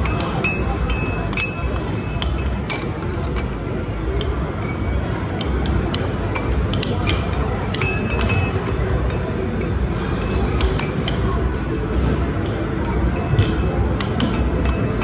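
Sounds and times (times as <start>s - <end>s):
murmur of voices: 0.0s - 15.0s.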